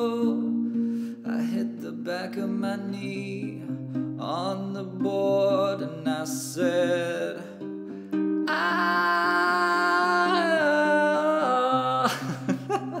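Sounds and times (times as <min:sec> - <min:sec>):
classical guitar strumming: 0:00.0 - 0:13.0
man singing: 0:00.0 - 0:13.0.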